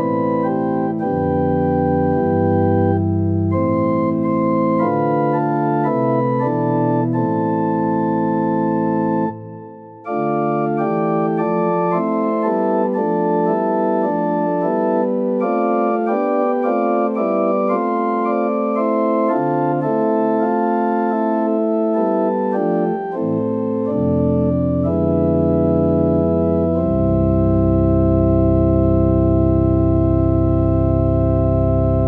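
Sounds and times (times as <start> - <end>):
organ chords: 0.0 - 32.0.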